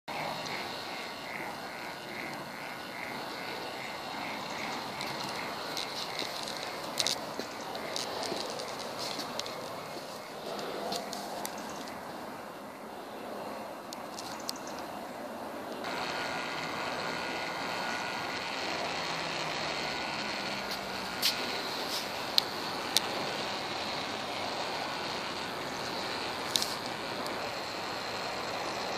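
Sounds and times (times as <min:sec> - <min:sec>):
plastic gears whirring: 0:00.1 - 0:12.2, 0:13.9 - 0:14.9, 0:15.8 - 0:28.9.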